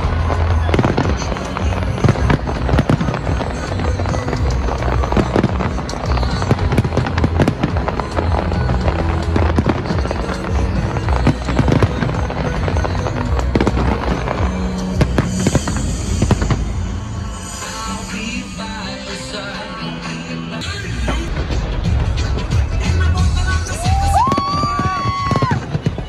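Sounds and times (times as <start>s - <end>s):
fireworks bursting and crackling: 0.0s - 26.0s
loud music with steady bass: 0.0s - 26.0s.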